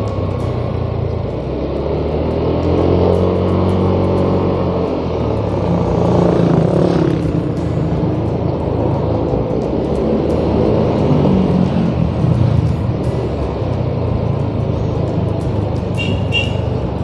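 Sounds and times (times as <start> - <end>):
scooter engine revving: 0.0 - 17.0
wind and road noise: 0.0 - 17.0.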